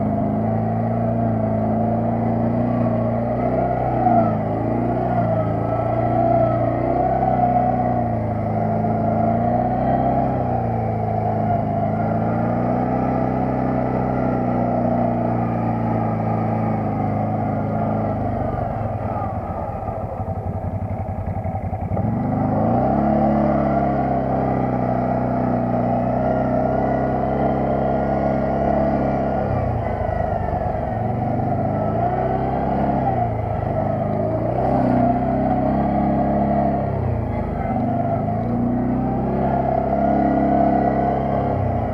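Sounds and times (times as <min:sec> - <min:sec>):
quad bike engine revving: 0:00.0 - 0:41.9.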